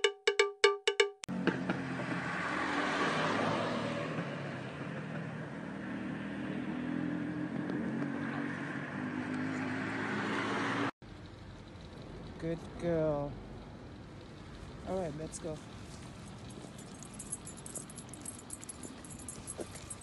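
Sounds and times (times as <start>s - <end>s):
street noise: 1.3s - 20.0s.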